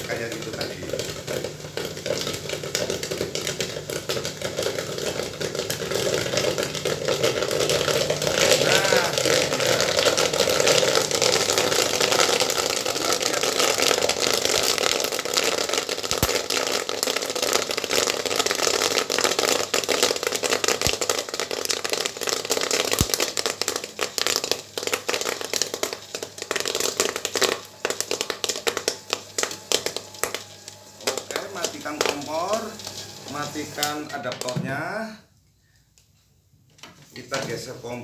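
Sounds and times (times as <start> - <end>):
corn popping in a kettle: 0.0 - 35.1.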